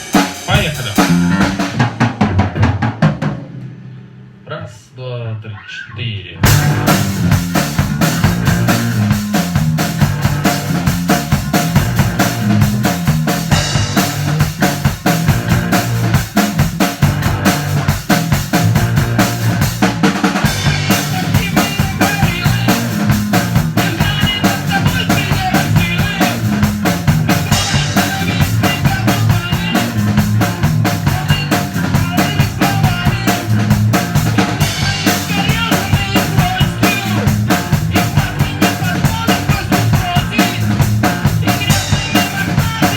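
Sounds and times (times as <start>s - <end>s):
drum kit beat: 0.0s - 4.2s, 6.4s - 42.9s
bass and guitars: 0.0s - 42.9s.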